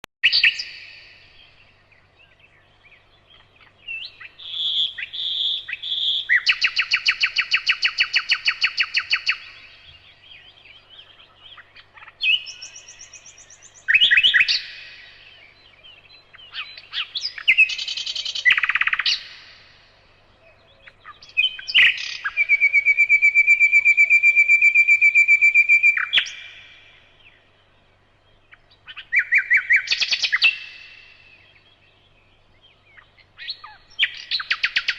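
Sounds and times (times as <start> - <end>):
bird song with fast trills: 0.2 - 34.9.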